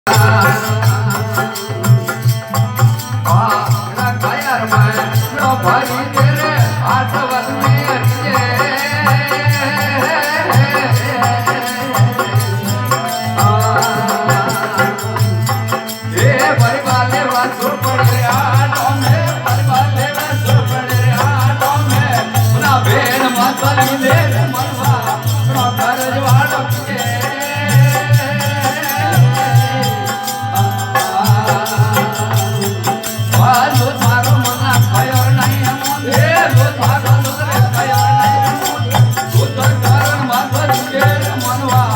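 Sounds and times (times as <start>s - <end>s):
folk devotional music: 0.0s - 41.9s.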